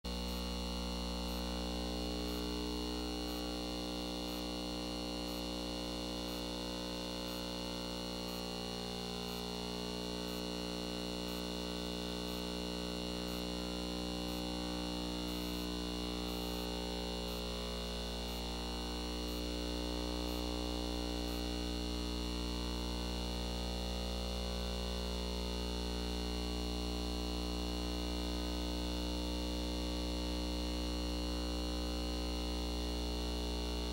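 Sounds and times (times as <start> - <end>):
wavering electrical hum: 0.1 - 33.9.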